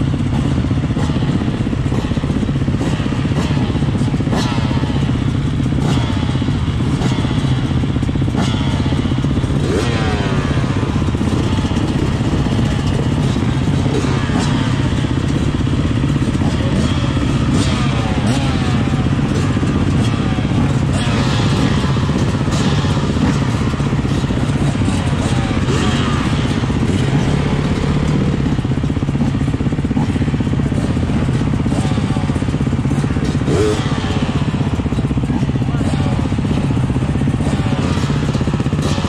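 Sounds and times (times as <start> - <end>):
dirt bikes running nearby: 0.0 - 39.0
motorcycle engine idling: 0.0 - 39.0.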